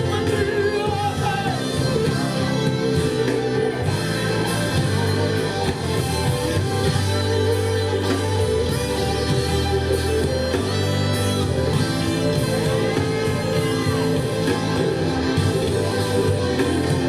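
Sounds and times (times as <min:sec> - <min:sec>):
instrumental worship music: 0:00.0 - 0:17.0.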